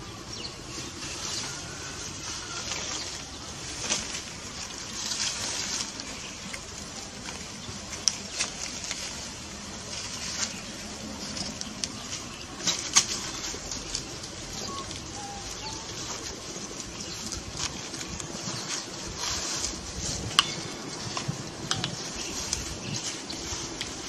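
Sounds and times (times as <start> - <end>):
dry leaves rustling and crackling: 0.0 - 24.0
outdoor background hiss: 0.0 - 24.0.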